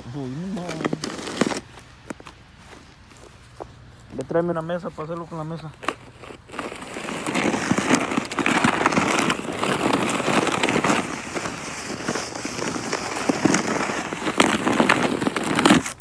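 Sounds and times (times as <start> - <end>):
snow crunching: 0.0 - 16.0.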